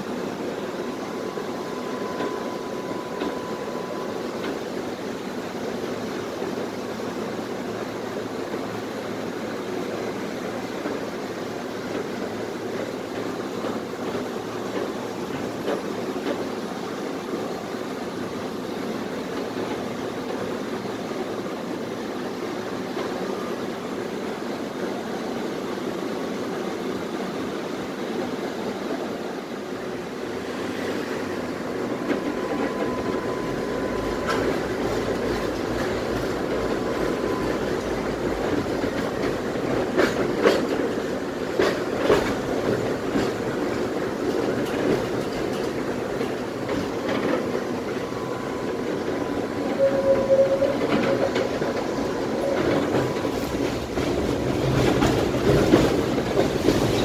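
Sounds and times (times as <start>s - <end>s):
tram wheels rumbling on rails: 0.0s - 57.0s
rail-joint clacks: 0.2s - 8.8s, 9.6s - 21.5s, 30.9s - 57.0s.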